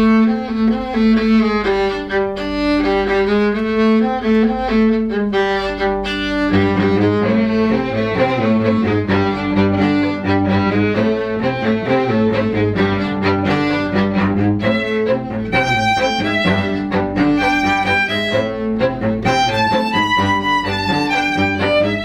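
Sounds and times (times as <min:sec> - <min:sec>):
violin and cello music: 0:00.0 - 0:22.0.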